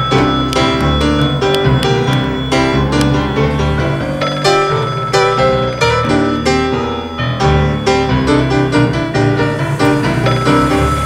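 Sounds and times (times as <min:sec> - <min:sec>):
bass line: 0:00.0 - 0:11.0
keyboard chords: 0:00.0 - 0:11.0.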